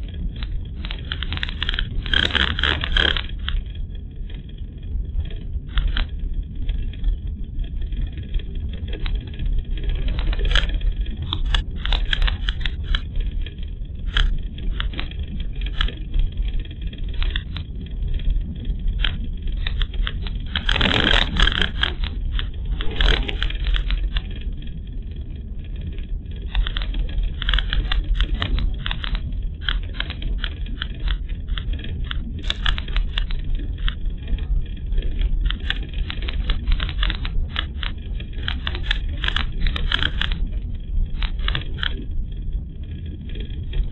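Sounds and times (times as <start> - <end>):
clicks crackles and rattles: 0.0 - 43.9.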